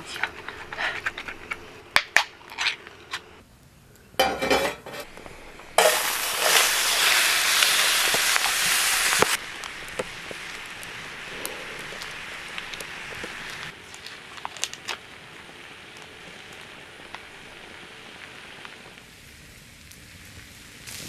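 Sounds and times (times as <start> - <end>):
loud steady hiss: 0.0 - 21.0.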